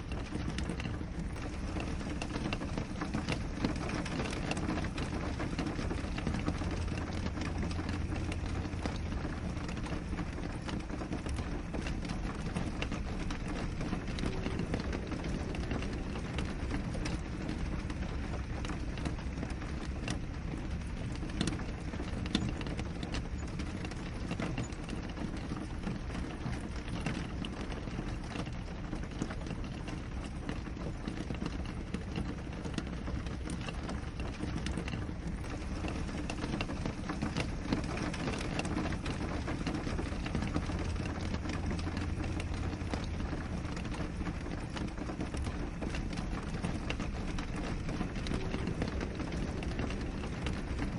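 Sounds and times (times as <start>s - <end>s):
rain on a window pane: 0.0s - 50.9s.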